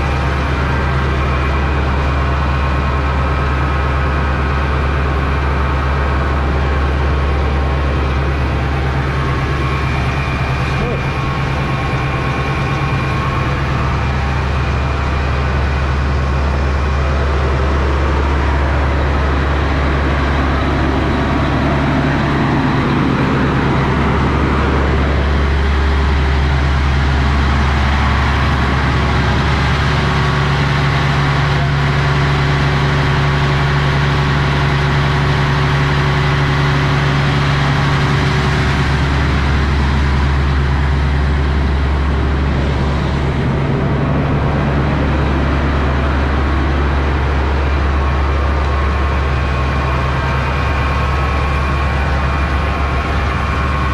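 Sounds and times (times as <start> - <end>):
diesel generator droning: 0.0 - 53.9.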